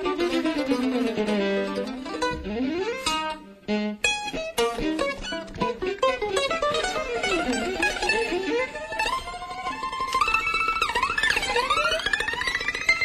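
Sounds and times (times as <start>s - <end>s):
plucked mandolin and guitar: 0.0s - 13.0s.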